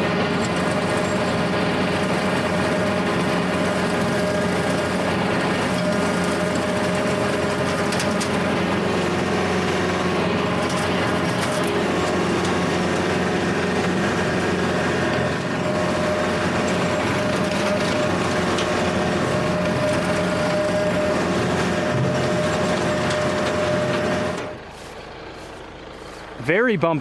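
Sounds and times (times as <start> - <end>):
rotary cutter mowing grass: 0.0 - 26.8
tractor diesel engine running: 0.0 - 27.0.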